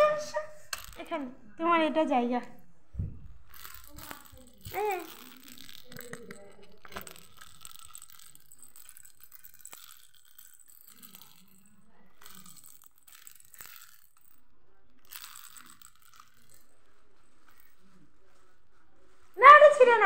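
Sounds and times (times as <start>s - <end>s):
plastic toy clicking and rattling: 0.0s - 1.4s, 3.4s - 20.0s.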